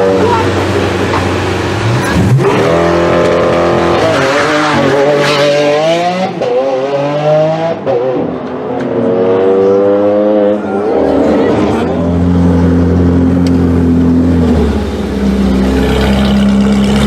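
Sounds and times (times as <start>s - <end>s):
sports car engine accelerating hard: 0.0s - 17.0s.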